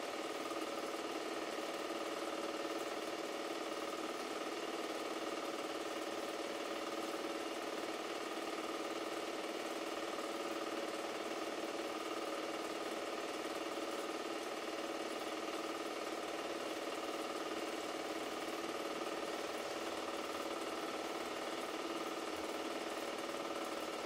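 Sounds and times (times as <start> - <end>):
projector motor hum: 0.0 - 24.0.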